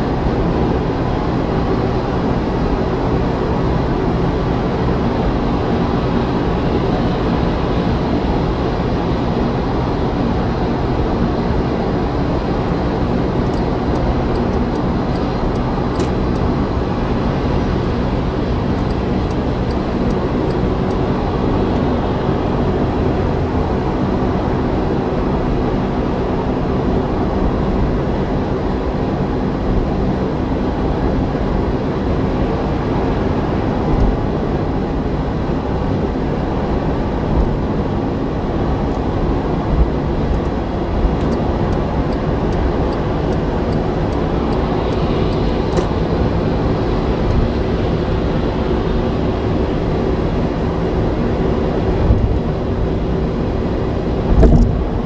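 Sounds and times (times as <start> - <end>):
car interior driving drone: 0.0 - 55.0.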